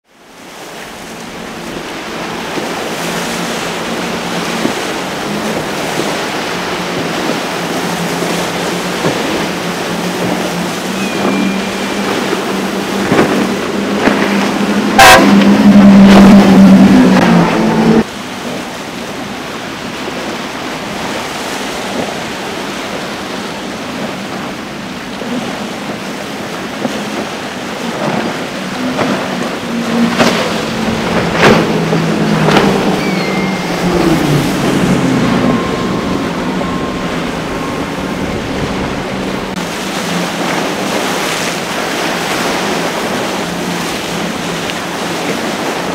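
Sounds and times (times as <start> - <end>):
outboard motors droning: 0.0 - 45.9
rush of spray and waves: 0.0 - 45.9.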